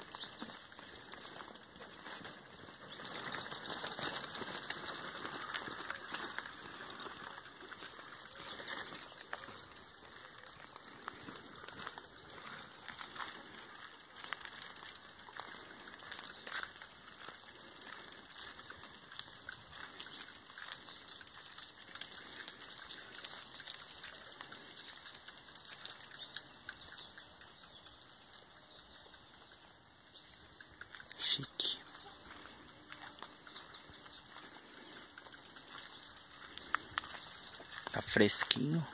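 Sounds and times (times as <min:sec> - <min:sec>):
footsteps on dirt path: 0:00.0 - 0:27.3, 0:29.5 - 0:38.9.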